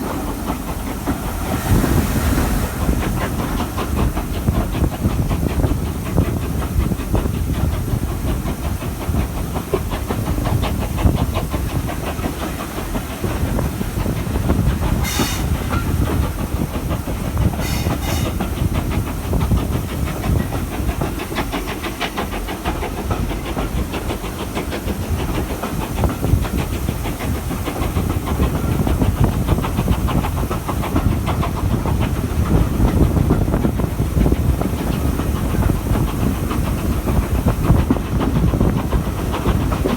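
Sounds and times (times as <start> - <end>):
steam hiss: 0.0 - 39.9
steam train rumbling: 0.0 - 39.9
wheels clattering on rail: 0.0 - 39.9.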